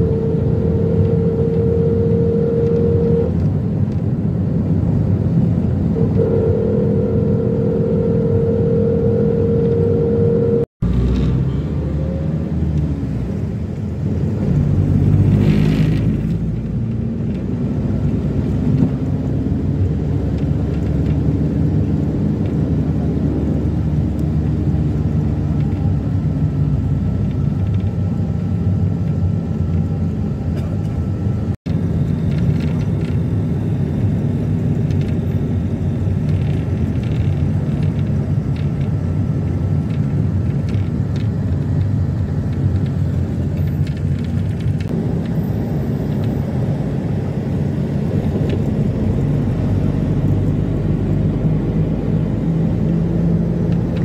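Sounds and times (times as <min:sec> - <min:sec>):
road and engine rumble inside car: 0:00.0 - 0:54.0.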